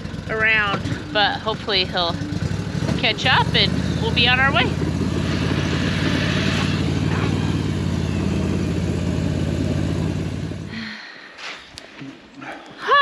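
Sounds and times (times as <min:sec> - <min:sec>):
atv engine running: 0:00.0 - 0:11.1.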